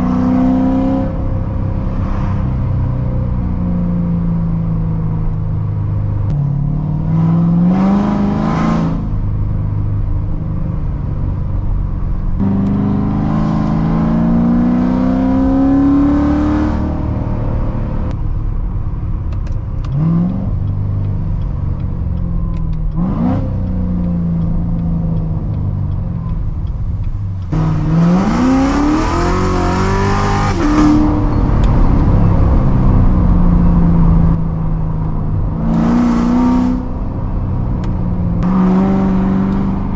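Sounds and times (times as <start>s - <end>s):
car accelerating: 0.0s - 18.2s, 19.3s - 39.9s
car exhaust drone: 0.0s - 39.9s.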